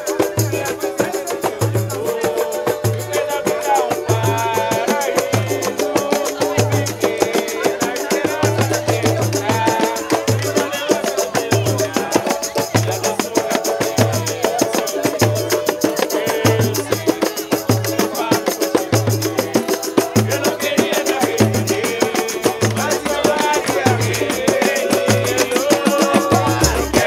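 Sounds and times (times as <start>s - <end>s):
banjo: 0.0s - 27.0s
tambourine: 0.0s - 27.0s
voices singing along: 0.0s - 27.0s.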